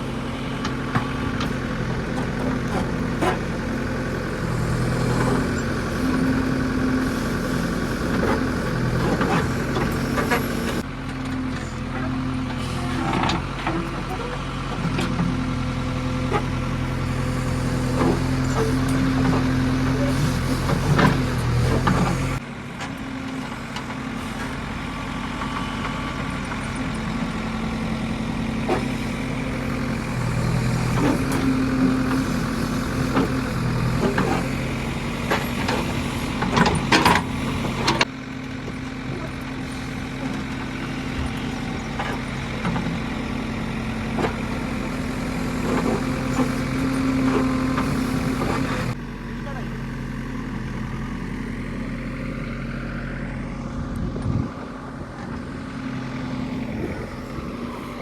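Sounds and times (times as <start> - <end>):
diesel engine working under load: 0.0 - 58.0.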